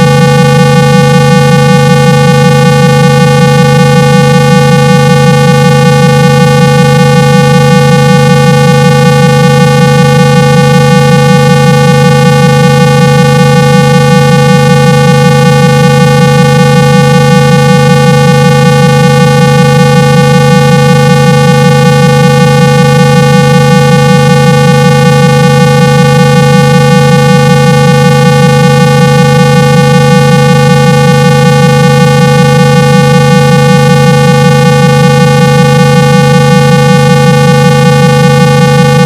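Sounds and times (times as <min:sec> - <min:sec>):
buzzy test tone: 0:00.0 - 0:39.0.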